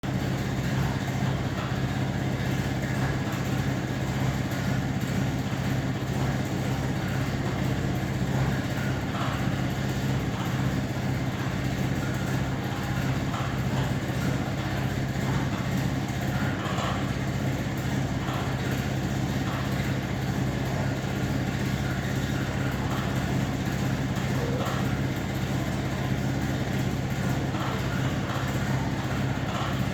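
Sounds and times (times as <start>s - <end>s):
exhaust fan humming: 0.0s - 29.9s.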